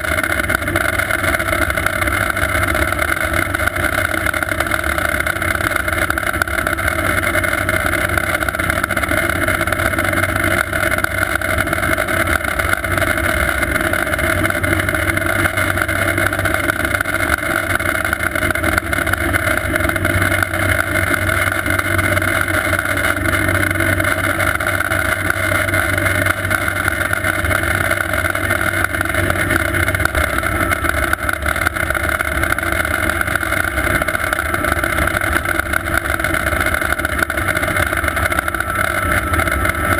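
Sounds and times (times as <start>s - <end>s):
helicopter rotor noise: 0.0s - 39.9s
turbine high whine: 0.0s - 39.9s.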